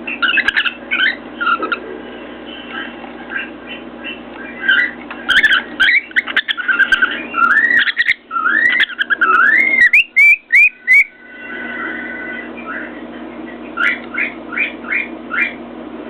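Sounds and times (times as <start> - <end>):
cockatiel whistling: 0.1 - 1.8, 2.7 - 15.6.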